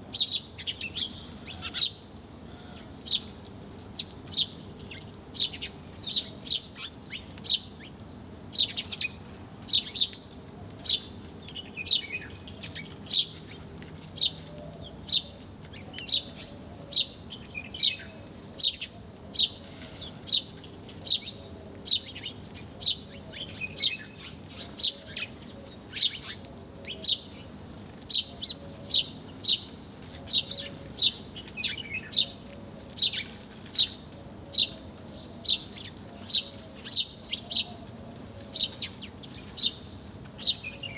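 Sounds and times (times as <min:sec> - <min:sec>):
small birds chirping: 0:00.1 - 0:40.9.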